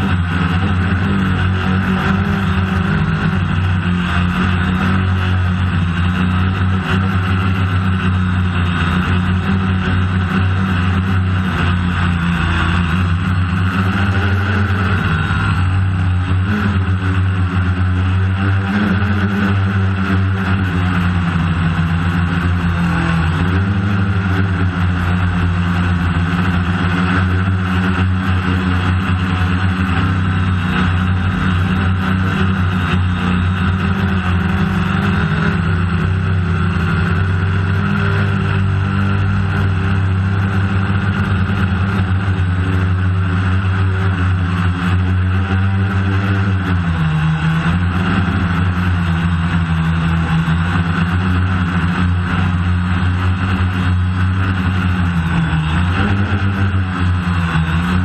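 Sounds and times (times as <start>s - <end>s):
quadcopter propellers buzzing: 0.0s - 58.0s.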